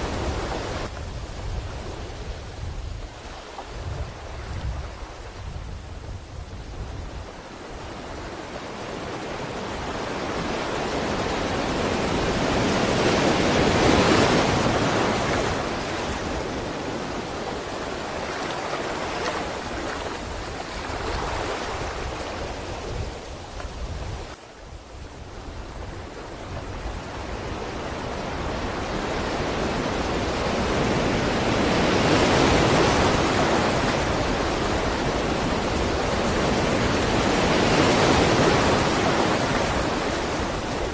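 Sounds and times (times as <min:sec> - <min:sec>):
ocean waves washing ashore: 0:00.0 - 0:40.9.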